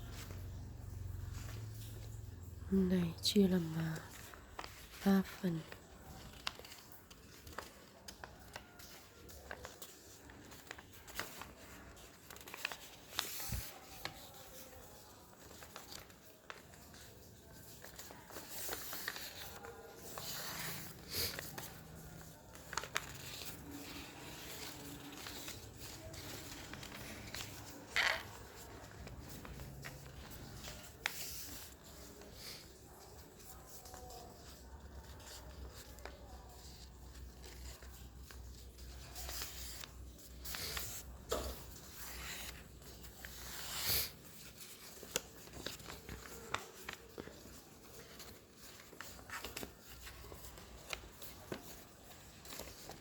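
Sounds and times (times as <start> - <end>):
paper rustling and crinkling: 0.0 - 53.0.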